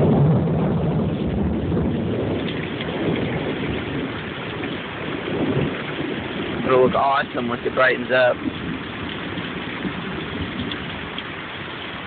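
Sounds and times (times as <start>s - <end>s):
low rumble of thunder: 0.0s - 12.0s
rain pouring: 0.0s - 12.0s.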